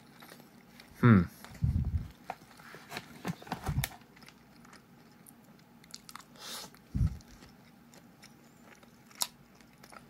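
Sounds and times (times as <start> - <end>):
person chewing rice: 0.0 - 2.7, 3.8 - 10.0.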